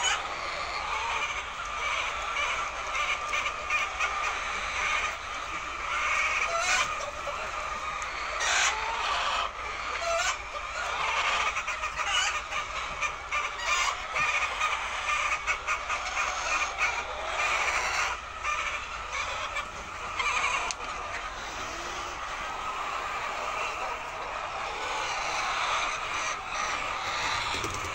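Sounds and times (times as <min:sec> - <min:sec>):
hens clucking and squawking: 0:00.0 - 0:27.9.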